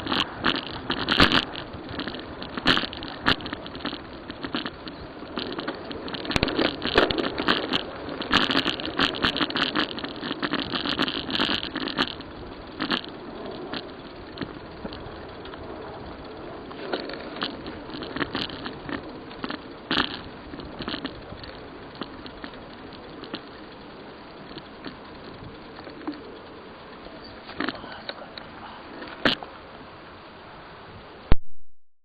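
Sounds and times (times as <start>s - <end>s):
bicycle clicks and rattles: 0.0s - 30.2s
bicycle riding noise: 0.0s - 31.4s.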